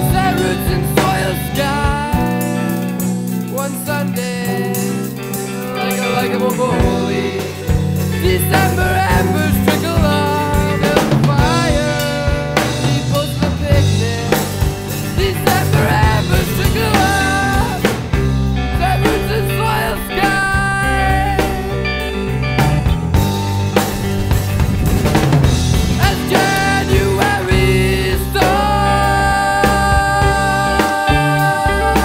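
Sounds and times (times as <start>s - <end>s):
bass line: 0.0s - 32.0s
drum kit beat: 0.0s - 32.0s.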